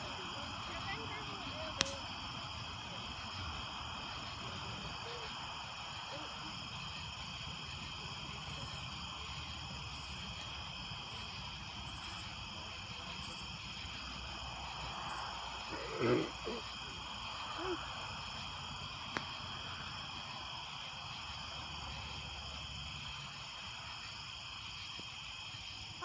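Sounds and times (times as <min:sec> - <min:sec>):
night insects chorus: 0:00.0 - 0:26.0.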